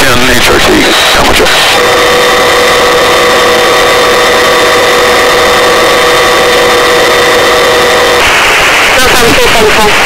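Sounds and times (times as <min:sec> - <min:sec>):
helicopter turbine and rotor: 0:00.0 - 0:10.0.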